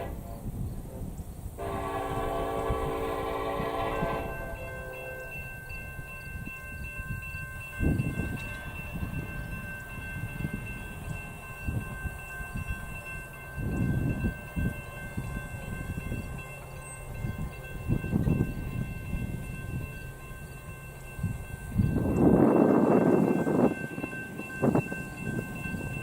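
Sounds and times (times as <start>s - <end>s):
freight train rumble: 0.0s - 26.0s
faint steady high tones: 1.6s - 26.0s.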